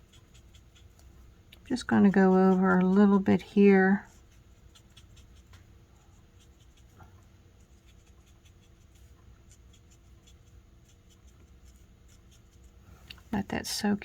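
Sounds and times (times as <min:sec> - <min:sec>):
marker scratching on card: 0:00.0 - 0:07.0, 0:07.6 - 0:12.8.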